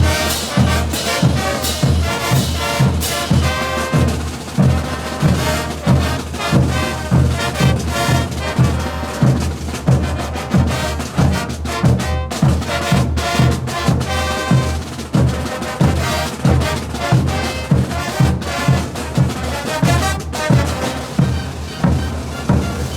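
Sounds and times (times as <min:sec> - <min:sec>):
bass drum and percussion beat: 0:00.0 - 0:22.9
trumpets and trombones: 0:00.0 - 0:22.9.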